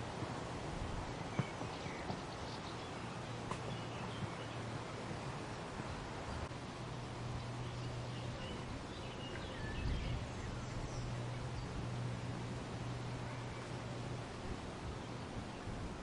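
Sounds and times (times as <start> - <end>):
leaves rustling in wind: 0.0 - 16.0.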